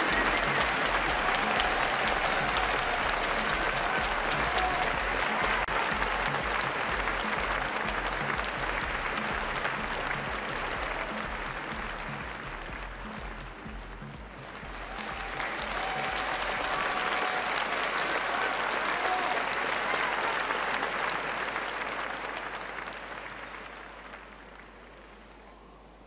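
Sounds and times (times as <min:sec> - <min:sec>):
audience applauding: 0:00.0 - 0:25.3.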